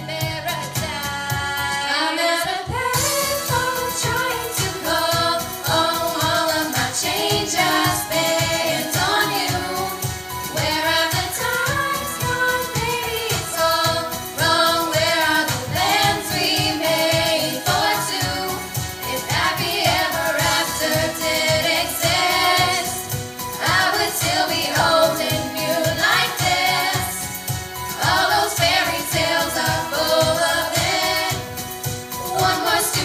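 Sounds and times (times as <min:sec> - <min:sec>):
backing track with steady beat: 0:00.0 - 0:02.0, 0:02.6 - 0:33.0
girls singing in harmony: 0:01.6 - 0:33.0.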